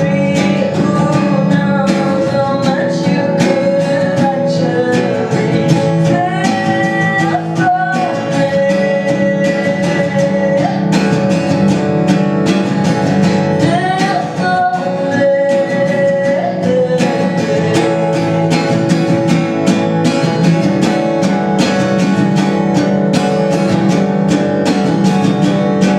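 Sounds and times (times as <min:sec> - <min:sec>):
person singing: 0:00.0 - 0:25.9
strummed acoustic guitar: 0:00.0 - 0:25.9.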